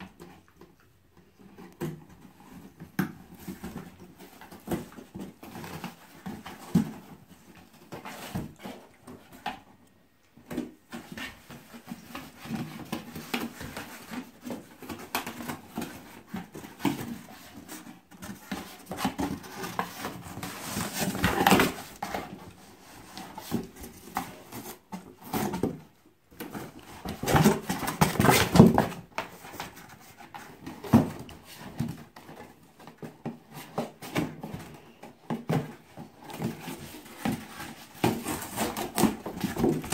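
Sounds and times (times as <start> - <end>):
puppy chewing cardboard box: 0.0 - 39.9
cardboard scraping and rustling: 1.4 - 9.7, 10.5 - 39.9.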